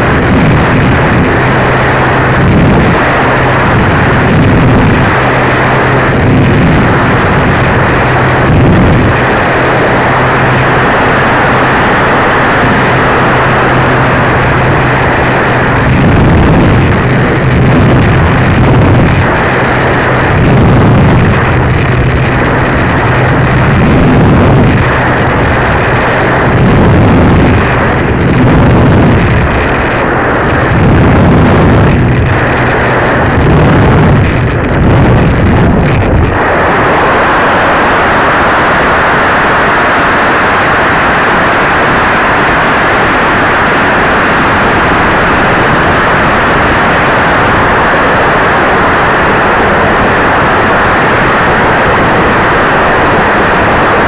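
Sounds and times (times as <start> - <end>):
electric motor and propeller: 0.0 - 54.0
wind buffeting microphone: 0.0 - 54.0.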